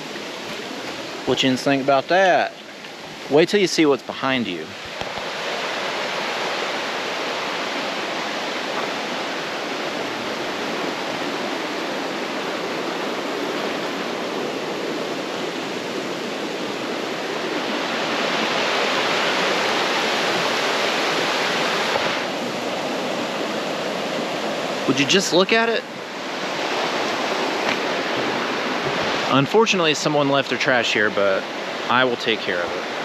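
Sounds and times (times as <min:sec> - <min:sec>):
creek water rushing: 0:00.0 - 0:33.0.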